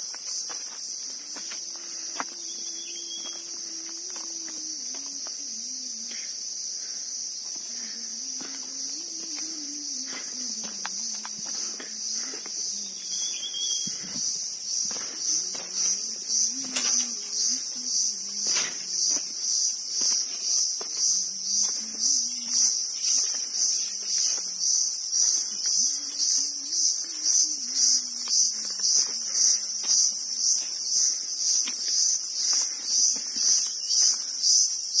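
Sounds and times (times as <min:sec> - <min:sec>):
insect chorus shrill drone: 0:00.0 - 0:35.0.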